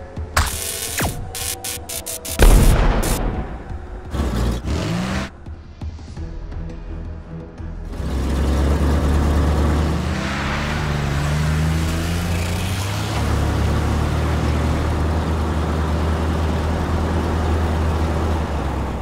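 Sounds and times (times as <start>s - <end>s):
truck engine drone and rev: 0.0s - 19.0s.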